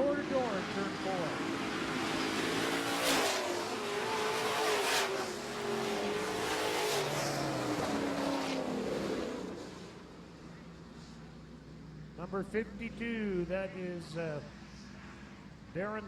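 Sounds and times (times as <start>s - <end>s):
trucks racing with engines revving: 0.0s - 16.0s.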